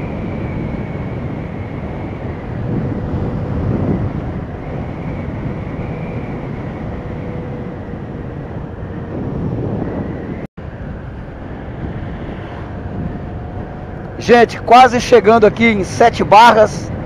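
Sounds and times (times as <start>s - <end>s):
motorcycle engine drone: 0.0s - 17.0s
wind and road noise: 0.0s - 17.0s.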